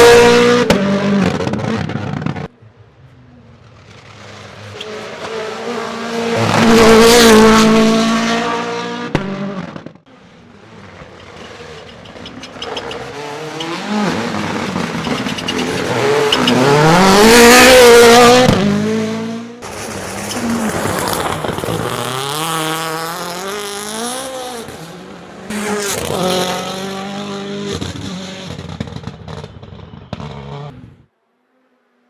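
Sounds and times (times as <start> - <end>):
car engine accelerating: 0.0 - 31.1
rally car passing flat out: 3.7 - 31.0.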